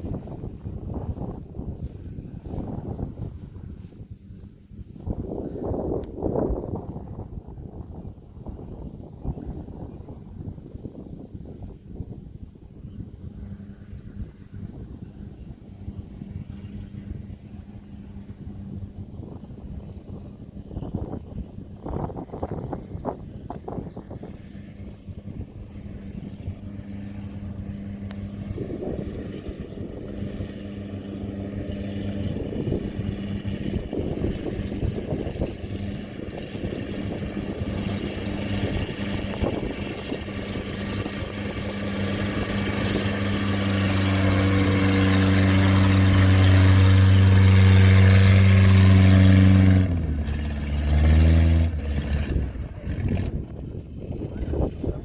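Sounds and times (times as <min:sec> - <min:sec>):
combine harvester diesel engine: 0:00.0 - 0:06.1, 0:09.5 - 0:55.0.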